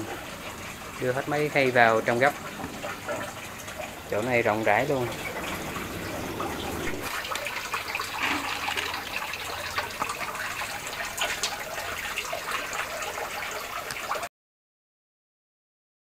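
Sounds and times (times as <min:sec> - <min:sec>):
water trickling and splashing: 0:00.0 - 0:14.3.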